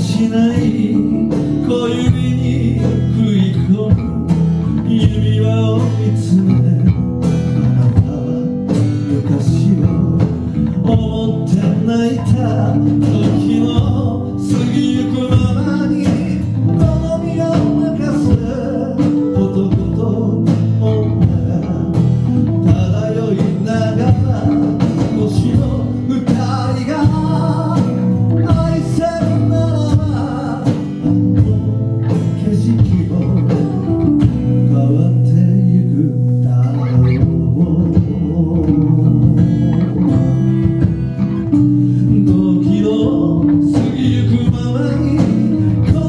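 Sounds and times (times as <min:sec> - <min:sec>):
acoustic guitar: 0:00.0 - 0:46.0
electric bass: 0:00.0 - 0:46.0.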